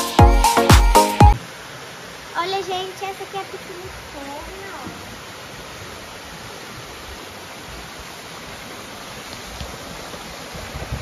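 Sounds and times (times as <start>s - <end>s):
small waterfall splashing over rocks: 1.4s - 11.0s.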